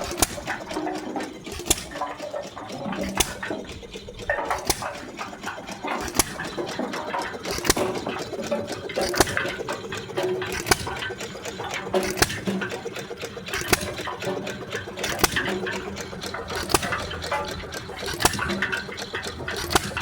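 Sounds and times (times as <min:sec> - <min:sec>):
engine clattering: 0:00.0 - 0:20.0.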